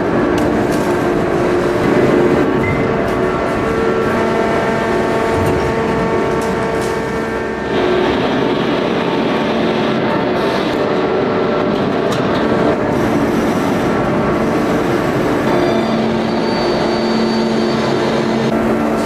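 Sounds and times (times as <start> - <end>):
hydraulic press machinery drone: 0.0 - 19.0.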